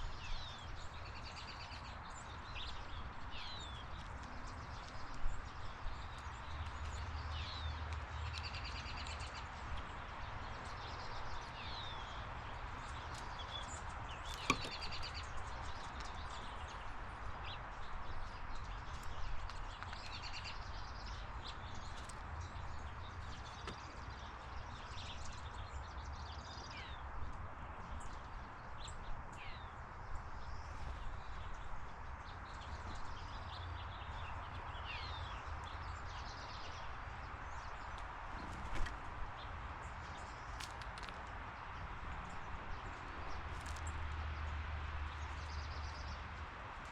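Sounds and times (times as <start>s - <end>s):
birds chirping: 0.0s - 46.8s
outdoor background noise: 0.0s - 46.9s.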